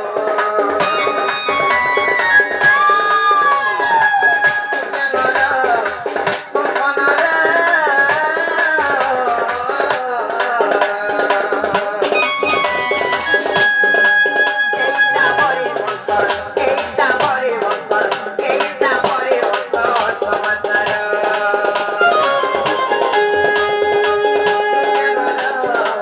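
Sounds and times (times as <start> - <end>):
drums and percussion: 0.0 - 26.0.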